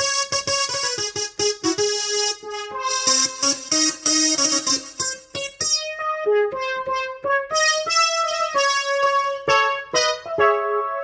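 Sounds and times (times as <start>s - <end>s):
keyboard playing a melody: 0.0s - 11.0s.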